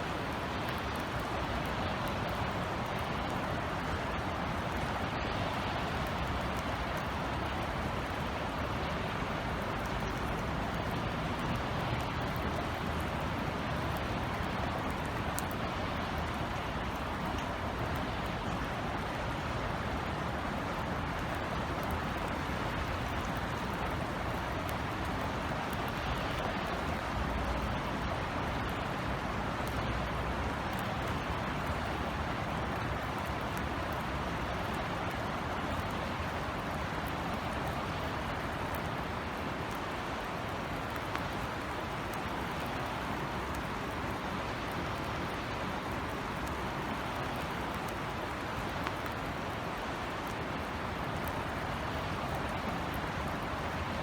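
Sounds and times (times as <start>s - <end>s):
steady rain falling: 0.0s - 54.0s
dripping ticks: 0.3s - 53.9s.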